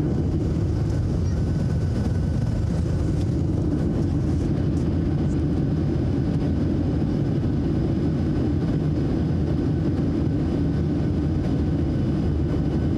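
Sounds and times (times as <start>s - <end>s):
jet engines roaring: 0.0s - 12.9s.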